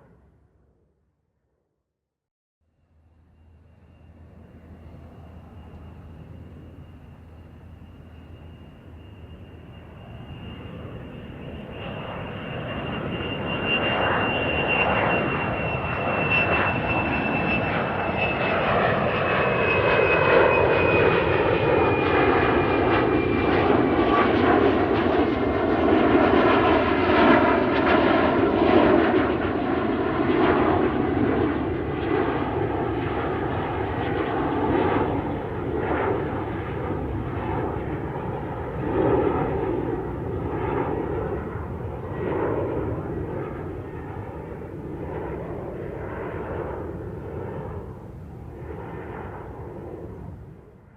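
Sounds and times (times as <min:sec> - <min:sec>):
airplane engine roar: 0:02.7 - 0:50.9.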